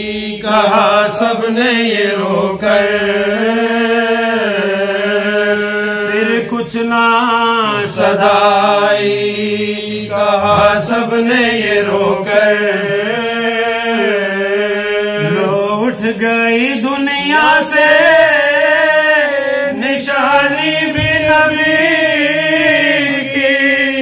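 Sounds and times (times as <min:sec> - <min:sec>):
men chanting unaccompanied: 0:00.0 - 0:24.0.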